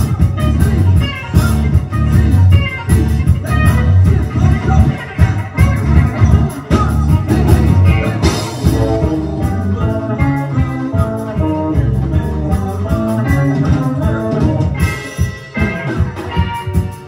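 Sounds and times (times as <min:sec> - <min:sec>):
accordion: 0:00.0 - 0:17.0
drums: 0:00.0 - 0:17.0
electric guitars: 0:00.0 - 0:17.0
man singing: 0:00.0 - 0:17.0
melodica: 0:00.0 - 0:17.0.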